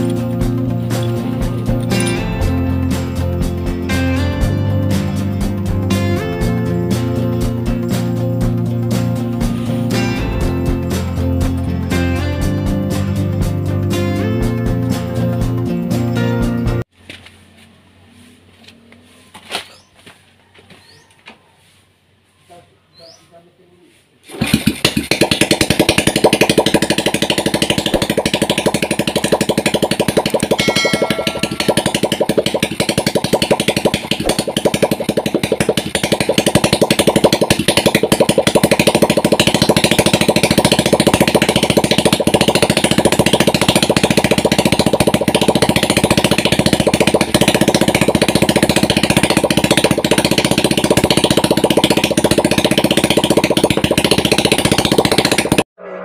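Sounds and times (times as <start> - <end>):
motorcycle engine running: 0.0 - 16.9, 24.4 - 55.7.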